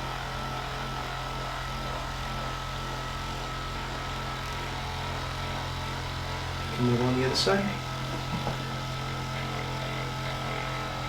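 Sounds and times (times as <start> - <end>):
electric massager humming: 0.0 - 11.0.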